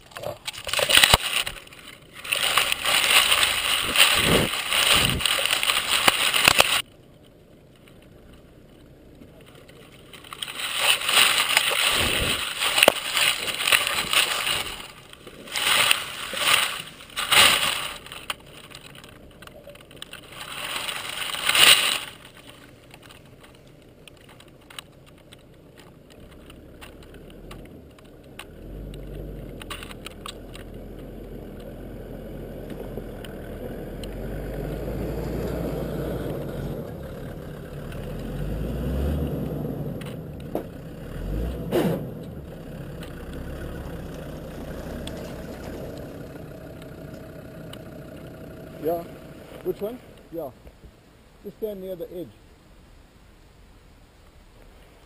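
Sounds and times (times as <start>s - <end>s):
rustling and wind buffeting: 0.0s - 55.0s
vehicle engine rumbling: 0.0s - 55.0s.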